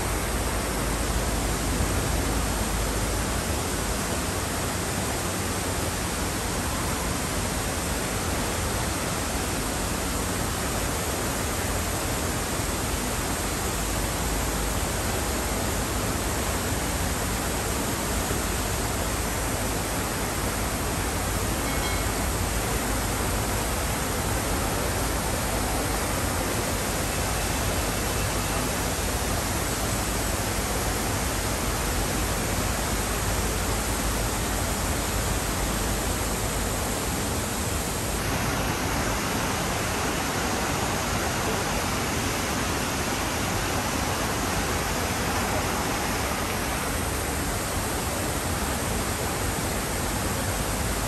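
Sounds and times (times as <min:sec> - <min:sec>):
fountain water splashing: 0:00.0 - 0:51.0.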